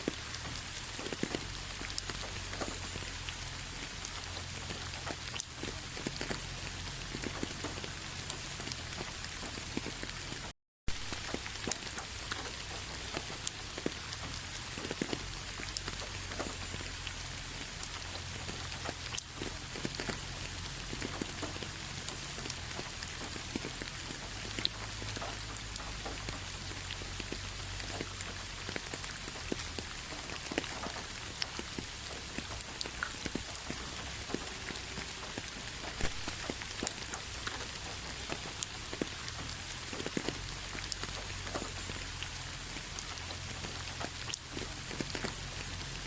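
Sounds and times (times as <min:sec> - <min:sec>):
rain falling: 0:00.0 - 0:46.0
raindrops pattering on a surface: 0:00.0 - 0:46.0.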